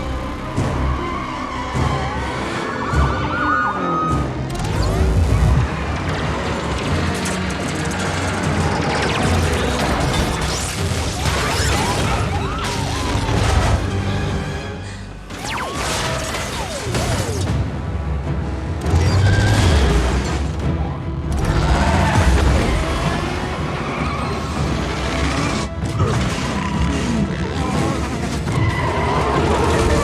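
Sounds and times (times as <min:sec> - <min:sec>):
action film music: 0:00.0 - 0:30.0.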